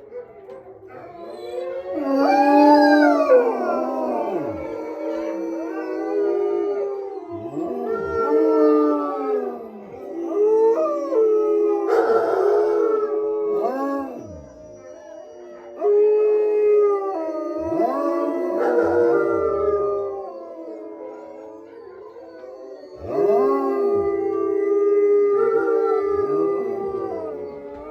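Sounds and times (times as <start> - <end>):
wolfdogs howling in chorus: 0.0 - 27.9.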